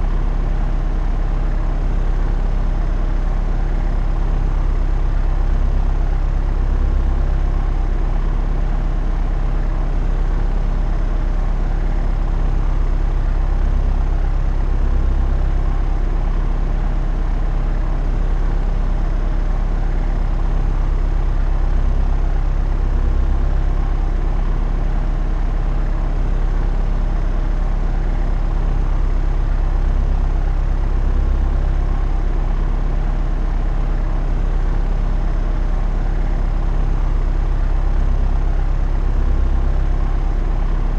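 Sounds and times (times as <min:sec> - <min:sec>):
propeller aeroplane drone: 0:00.0 - 0:40.9.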